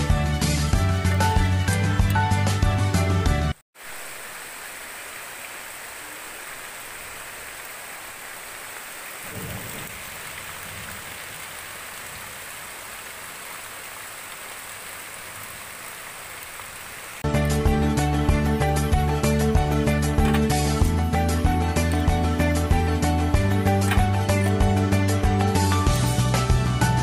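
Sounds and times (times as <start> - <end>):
steady rain on trees: 3.8 - 27.0.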